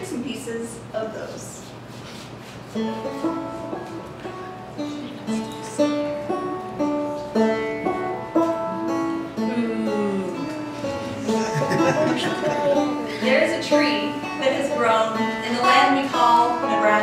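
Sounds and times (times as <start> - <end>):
banjo plucked melody: 2.8 - 17.0.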